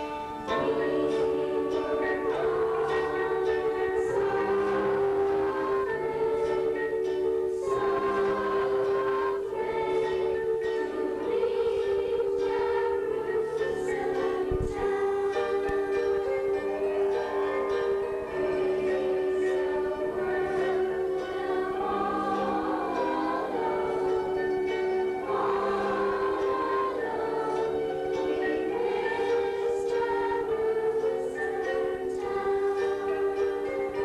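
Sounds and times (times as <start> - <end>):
musical accompaniment: 0.0 - 34.0
youth choir singing: 0.0 - 34.0.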